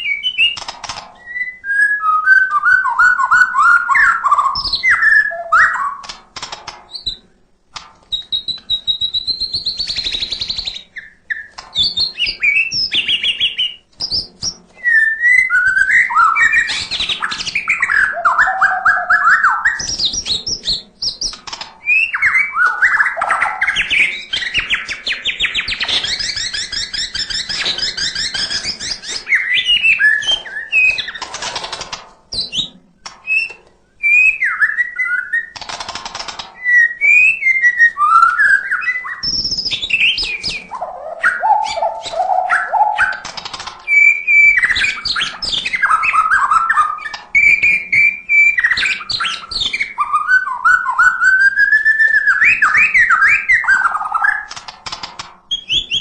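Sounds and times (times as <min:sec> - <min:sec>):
bird singing varied song: 0:00.0 - 0:07.3, 0:08.0 - 0:54.6, 0:55.4 - 0:56.0.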